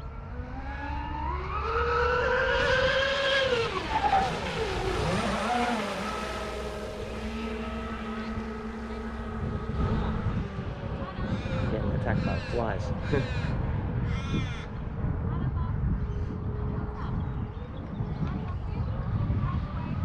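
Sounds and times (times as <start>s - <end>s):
electric boat motors whining: 0.0s - 20.0s.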